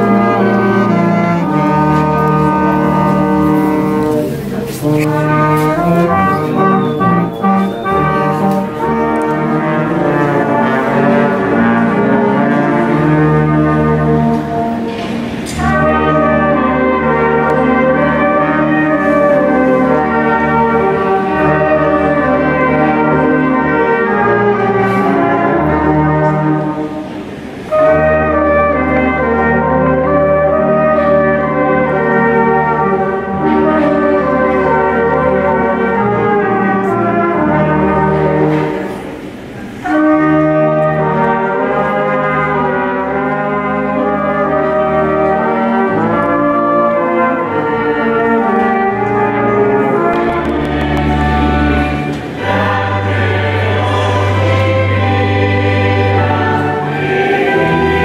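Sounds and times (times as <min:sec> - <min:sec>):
brass group playing: 0:00.0 - 0:58.0.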